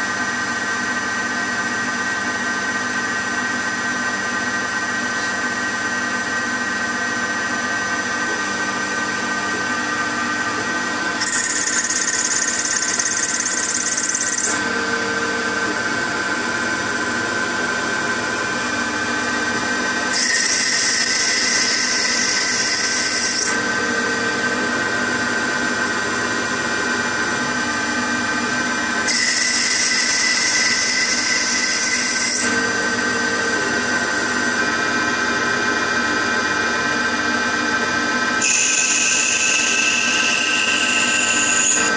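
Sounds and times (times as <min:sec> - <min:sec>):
lathe motor whine: 0:00.0 - 0:41.9.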